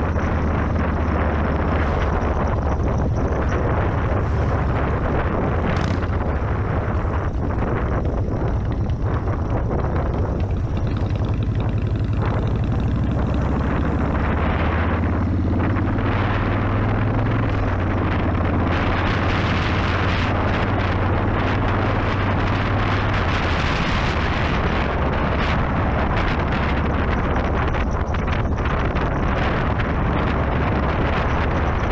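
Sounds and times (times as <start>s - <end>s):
motorcycle engine running: 0.0s - 31.9s
wind rushing over microphone: 0.0s - 31.9s.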